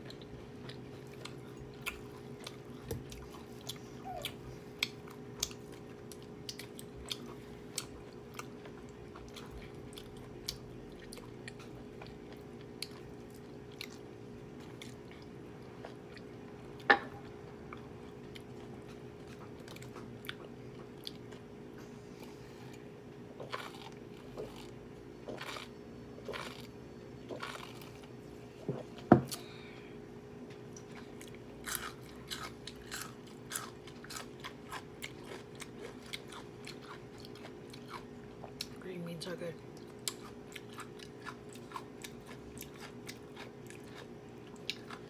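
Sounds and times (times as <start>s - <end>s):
close-up chewing food: 0.0s - 29.5s, 30.4s - 45.0s
steady low hum: 0.0s - 45.0s.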